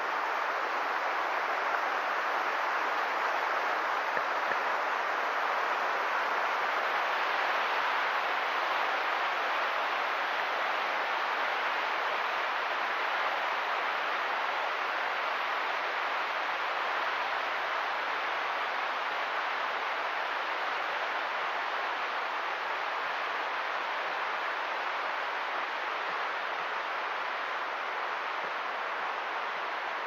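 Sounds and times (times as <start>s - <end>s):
creek rapids rushing: 0.0s - 30.0s.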